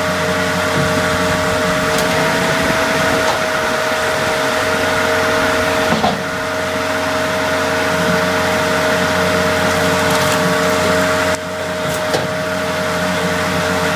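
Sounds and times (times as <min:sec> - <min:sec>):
hydraulic power unit whine: 0:00.0 - 0:13.9
mechanical hum: 0:00.0 - 0:13.9.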